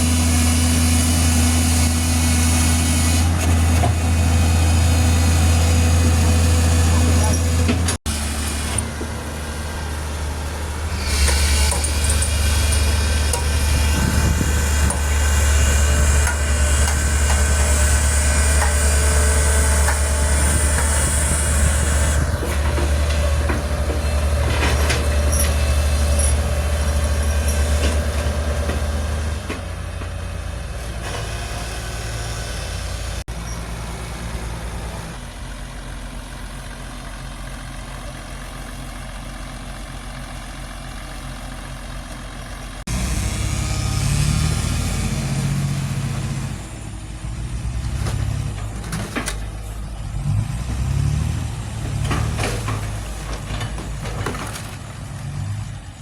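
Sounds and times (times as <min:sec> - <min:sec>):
heavy diesel engines droning: 0:00.0 - 0:56.0.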